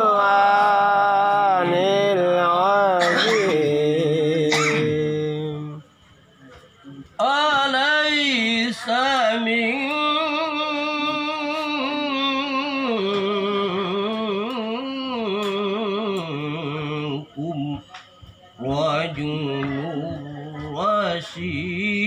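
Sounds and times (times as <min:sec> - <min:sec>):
man chanting melodically: 0:00.0 - 0:05.9, 0:07.1 - 0:17.9, 0:18.6 - 0:22.0.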